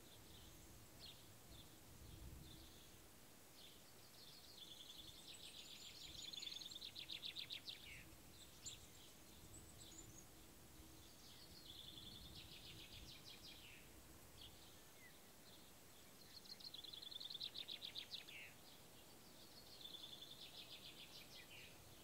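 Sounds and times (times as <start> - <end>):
faint outdoor background hiss: 0.0 - 22.0
songbird singing: 0.0 - 22.0.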